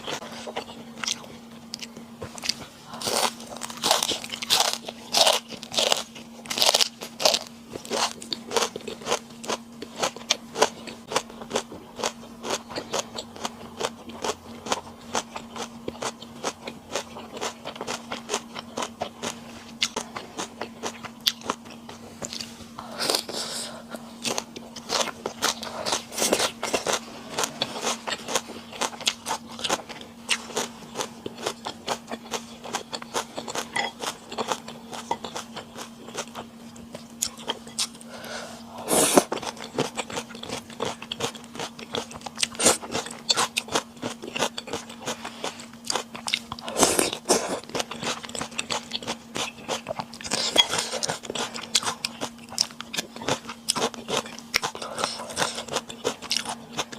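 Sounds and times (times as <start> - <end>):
chewing with crunchy bites: 0.0 - 56.9.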